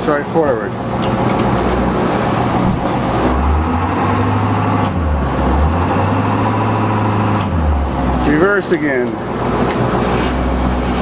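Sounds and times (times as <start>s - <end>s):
diesel bus engine revving: 0.0s - 11.0s.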